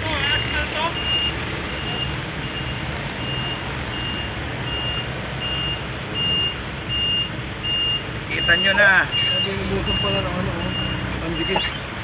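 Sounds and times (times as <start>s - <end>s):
idling engines rumbling: 0.0s - 12.0s
reversing alarm beeping: 0.2s - 11.8s.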